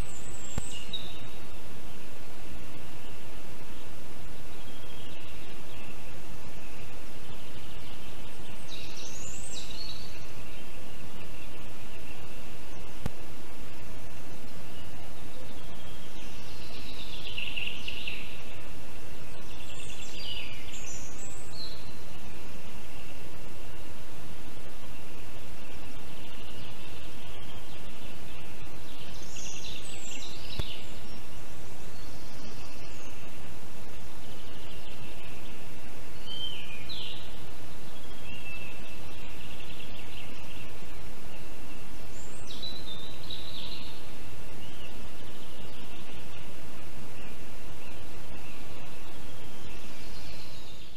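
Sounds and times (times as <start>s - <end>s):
birds calling: 0.0s - 50.9s
microphone noise hiss: 0.0s - 50.9s.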